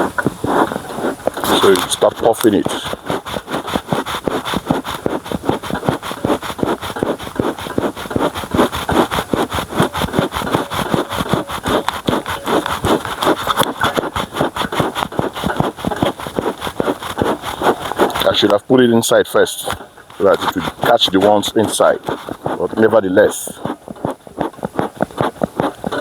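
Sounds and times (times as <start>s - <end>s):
bellows puffing air: 0.0s - 26.0s.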